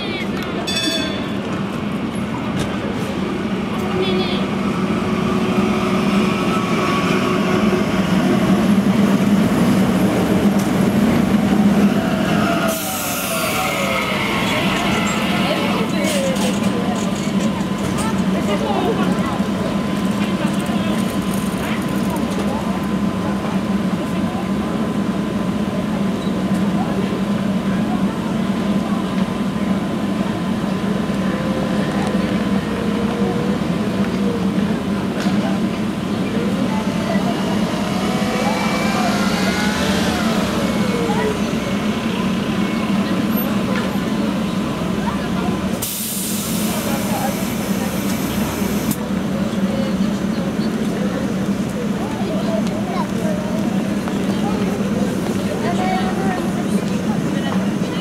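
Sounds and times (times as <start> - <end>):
tram rolling hum: 0.0 - 58.0.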